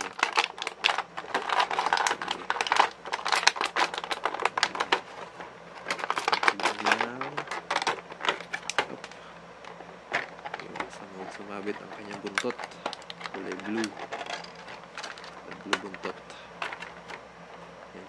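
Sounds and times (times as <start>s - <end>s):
plastic packaging crinkling and clicking: 0.0s - 17.2s.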